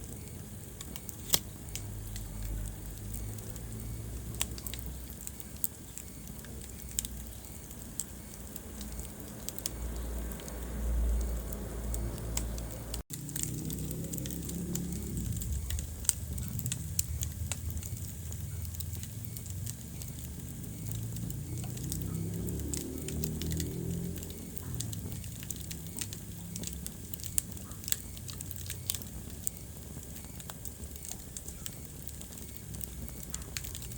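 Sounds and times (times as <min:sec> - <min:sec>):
low rumble of burning: 0:00.0 - 0:33.9
wood fire crackling and popping: 0:00.0 - 0:33.9.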